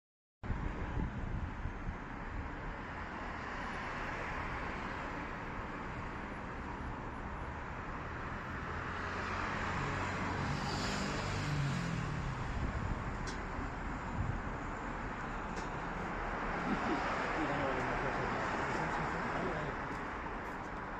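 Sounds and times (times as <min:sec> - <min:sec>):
steady roadway hum: 0:00.4 - 0:20.9.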